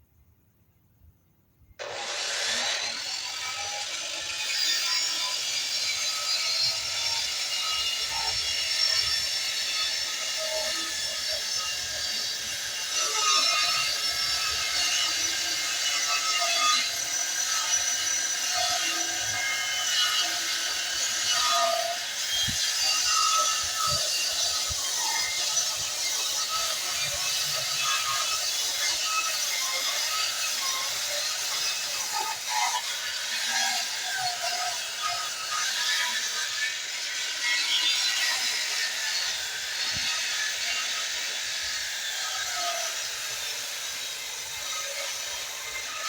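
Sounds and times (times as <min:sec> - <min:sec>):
electric power saw cutting wood: 0:01.8 - 0:46.0.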